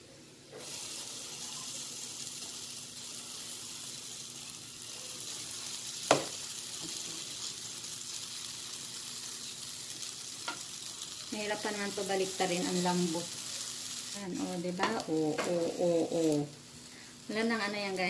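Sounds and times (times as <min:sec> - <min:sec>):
batter sizzling in a pan: 0:00.0 - 0:18.0.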